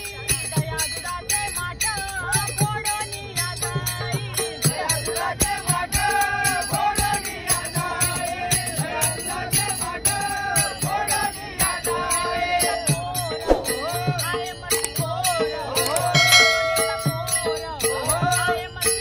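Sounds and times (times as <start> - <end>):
jingling hand percussion: 0.0 - 19.0
men singing devotional song: 0.0 - 19.0.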